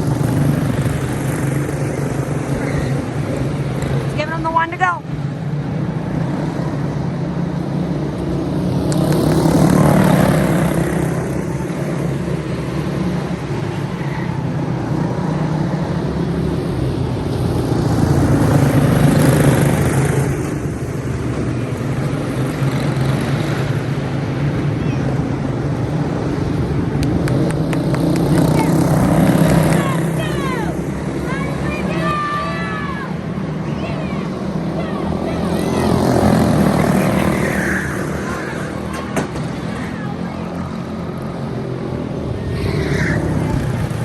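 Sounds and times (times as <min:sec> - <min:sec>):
racing kart engines: 0:00.0 - 0:44.0.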